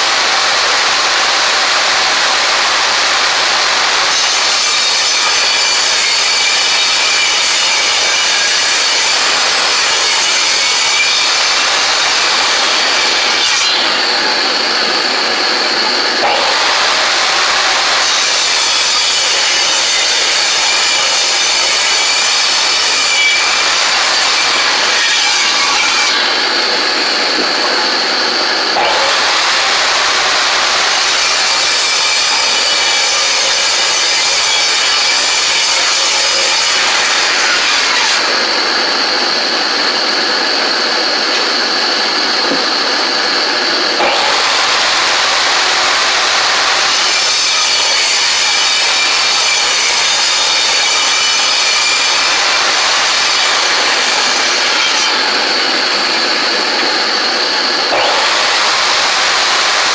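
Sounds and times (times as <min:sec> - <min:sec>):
woodworking machine cutting wood: 0:00.0 - 0:59.9.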